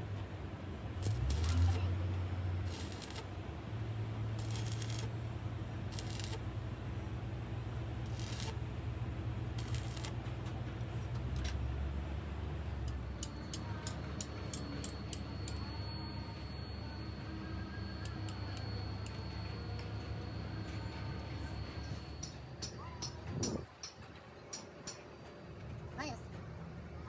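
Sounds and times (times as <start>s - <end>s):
low machine hum: 0.0s - 24.5s.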